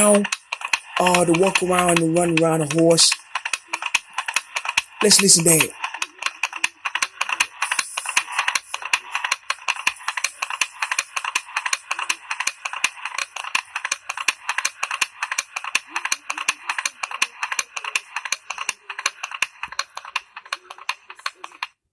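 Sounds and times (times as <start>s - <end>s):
rapid clicks through small speaker: 0.0s - 21.8s.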